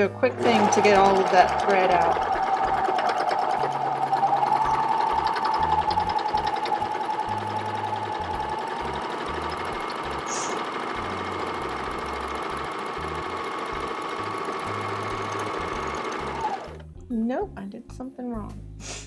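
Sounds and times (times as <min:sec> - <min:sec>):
serger sewing machine running: 0:00.0 - 0:16.8.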